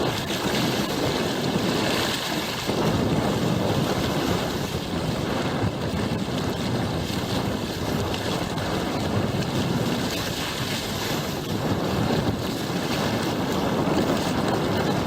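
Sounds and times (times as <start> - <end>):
water splashing along hull: 0.0 - 15.0
wind buffeting microphone: 0.0 - 15.0.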